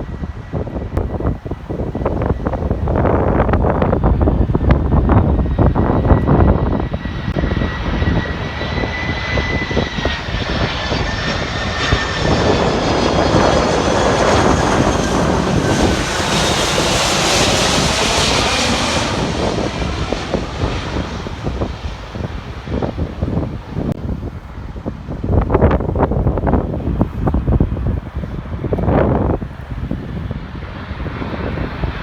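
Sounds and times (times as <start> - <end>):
jet airliner passing overhead: 0.0 - 32.0
wind buffeting microphone: 0.0 - 32.0.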